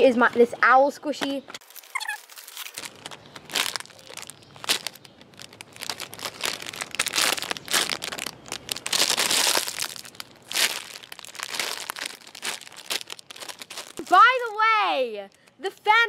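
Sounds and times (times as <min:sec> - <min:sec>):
plastic wrapper crinkling: 0:01.6 - 0:15.6.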